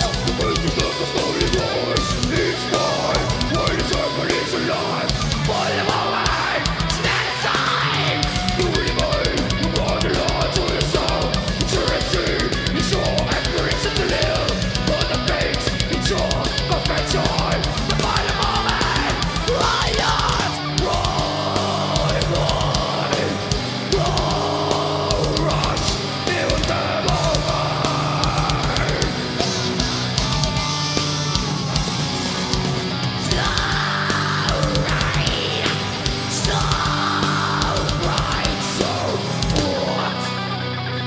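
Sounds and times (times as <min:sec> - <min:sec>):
drum kit with rapid bass drum: 0:00.0 - 0:40.4
distorted electric guitars: 0:00.0 - 0:41.0.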